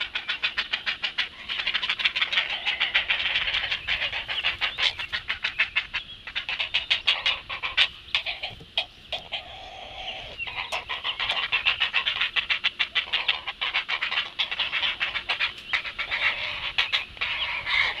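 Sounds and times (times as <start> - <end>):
heron nestlings begging calls: 0.0 - 18.0.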